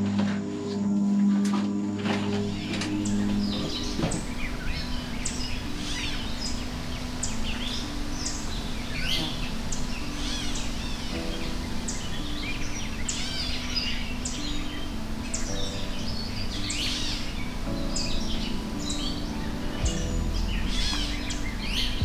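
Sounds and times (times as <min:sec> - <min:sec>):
steady low hum: 0:00.8 - 0:22.0
birds chirping and calling: 0:02.4 - 0:22.0.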